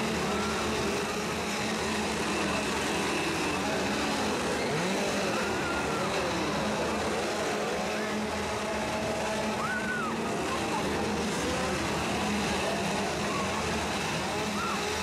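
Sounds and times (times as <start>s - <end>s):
chainsaws revving: 0.0s - 15.0s
crowd voices: 0.0s - 15.0s.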